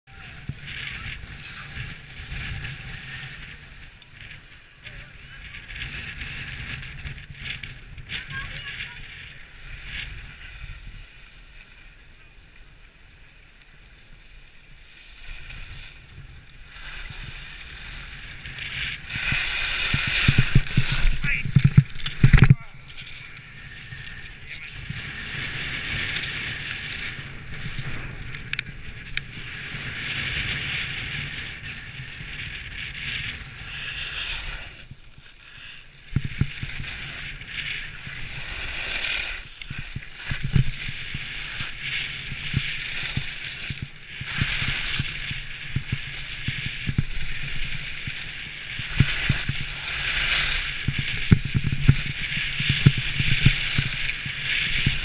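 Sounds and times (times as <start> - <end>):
skis scraping over snow: 0.2 - 55.0.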